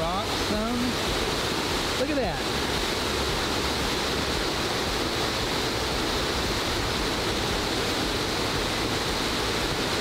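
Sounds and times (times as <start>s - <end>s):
small waterfall pouring into pool: 0.0s - 10.0s.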